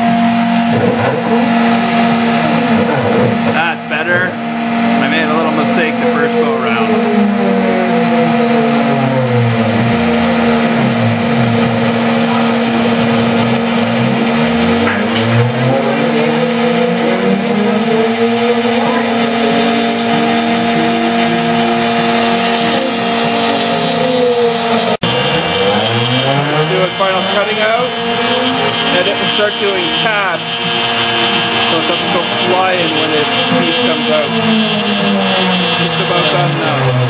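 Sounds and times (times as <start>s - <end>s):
router spindle cutting wood: 0.0s - 37.0s
stepper motors whining: 0.0s - 37.0s.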